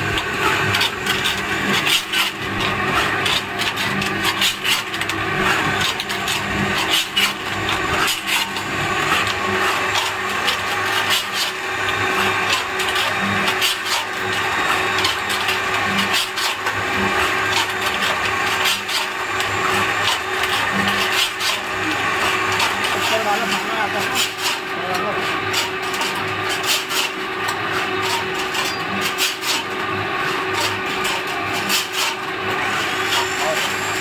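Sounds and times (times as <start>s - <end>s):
mortar mixer scraping and grinding: 0.0s - 34.0s.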